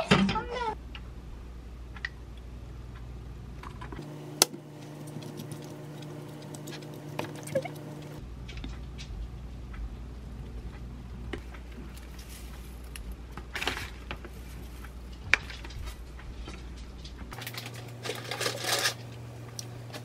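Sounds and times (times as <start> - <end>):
low steady hum: 0.8 - 20.0.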